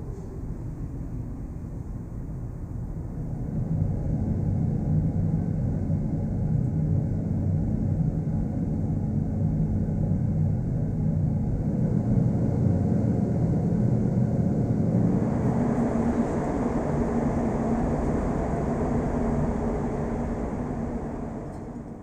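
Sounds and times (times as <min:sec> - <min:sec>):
faint hum: 0:00.0 - 0:22.0
ventilation air rumble: 0:00.0 - 0:22.0.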